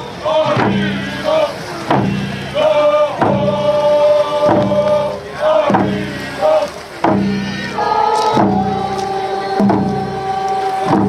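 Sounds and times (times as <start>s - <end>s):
voices singing long notes: 0.0s - 11.0s
drum beating: 0.3s - 11.0s.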